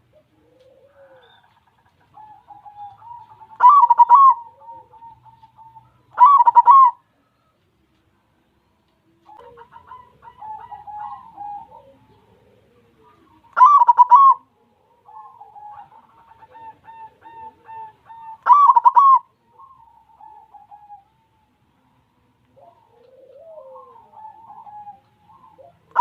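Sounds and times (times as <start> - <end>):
dove cooing: 0.0 - 7.6, 9.1 - 26.0.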